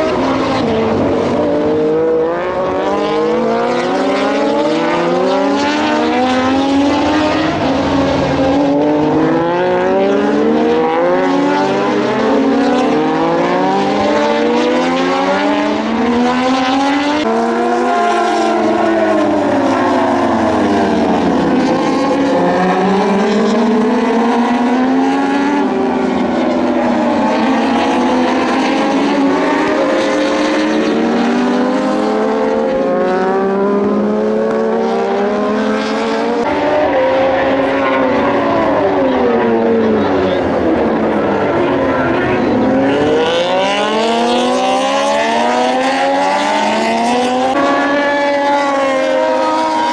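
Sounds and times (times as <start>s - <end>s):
racing motorcycles running hard: 0.0s - 49.9s.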